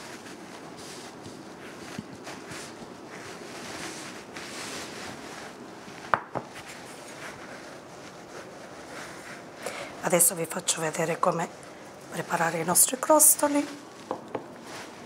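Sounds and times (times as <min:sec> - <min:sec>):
hands rubbing pasta dough: 0:00.0 - 0:15.0.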